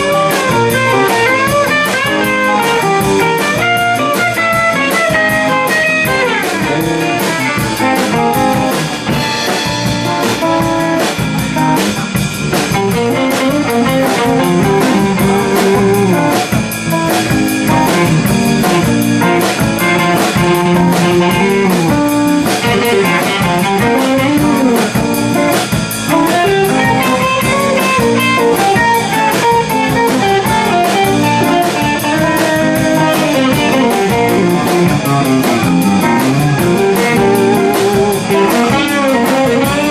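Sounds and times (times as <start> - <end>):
drum kit beat: 0.0 - 39.9
electric bass: 0.0 - 39.9
electric guitars: 0.0 - 39.9.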